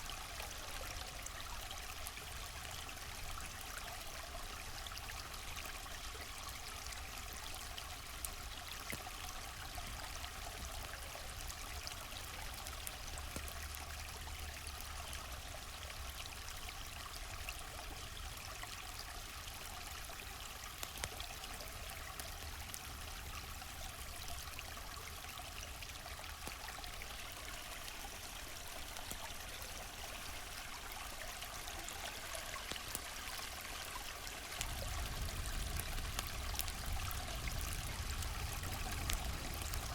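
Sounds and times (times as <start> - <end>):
campfire crackling: 0.0 - 39.9
river flowing: 0.0 - 39.9.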